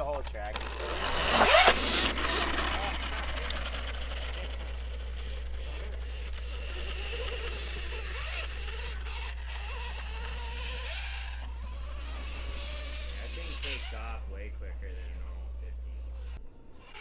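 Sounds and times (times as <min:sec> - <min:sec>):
electric motor whine: 0:00.5 - 0:17.0.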